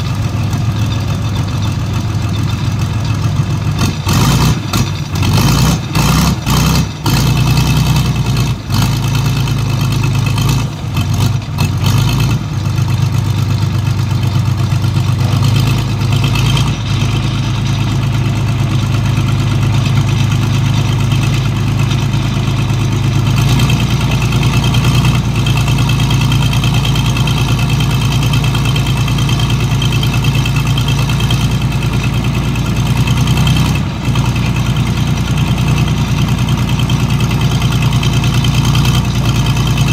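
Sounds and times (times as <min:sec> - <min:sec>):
excavator and pump engines humming: 0:00.0 - 0:39.9.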